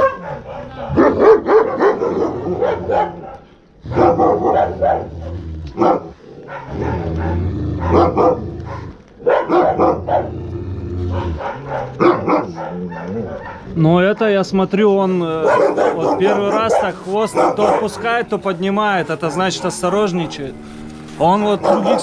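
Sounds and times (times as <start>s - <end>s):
dog barking rapidly: 0.0s - 10.4s, 11.1s - 14.2s, 15.3s - 20.5s, 21.2s - 22.0s.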